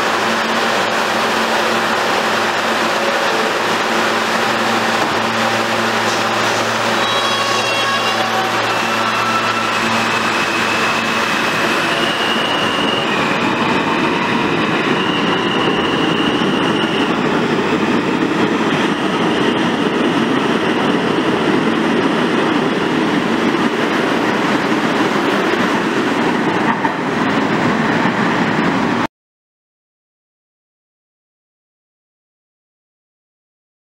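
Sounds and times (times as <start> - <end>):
wheels rumbling on rail: 0.0 - 29.1.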